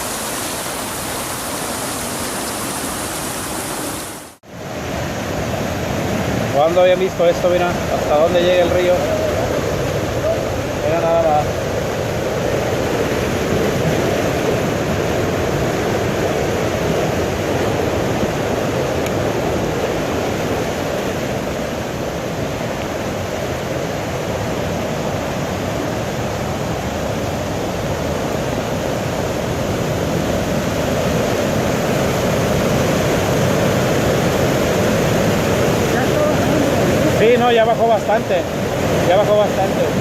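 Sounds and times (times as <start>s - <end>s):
flooded river rushing: 0.0s - 40.0s.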